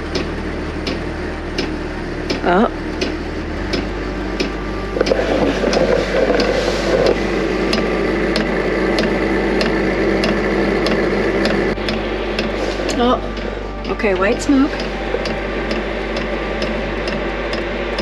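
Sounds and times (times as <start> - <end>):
fuel pump ticking: 0.0 - 18.0
heater blower fan humming: 0.0 - 18.0
rushing noise: 3.2 - 18.0.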